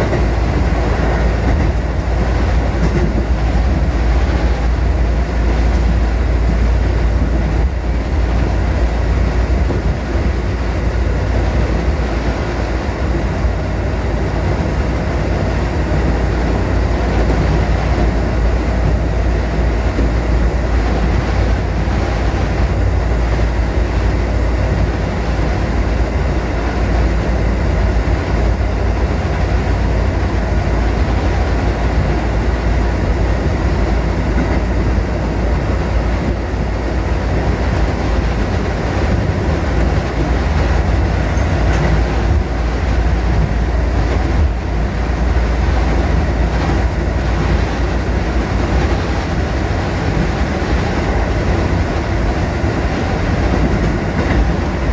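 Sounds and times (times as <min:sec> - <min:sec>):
train wheels rumbling: 0:00.0 - 0:54.9.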